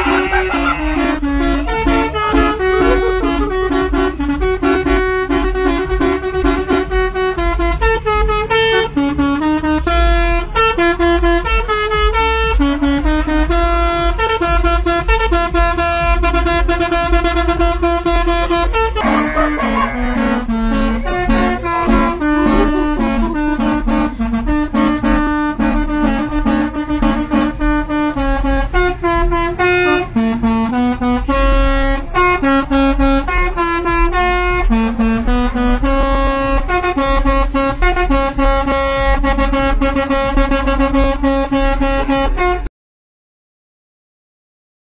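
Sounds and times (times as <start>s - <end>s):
bus air horn playing a tune: 0.0s - 42.7s
low engine rumble: 0.0s - 42.7s.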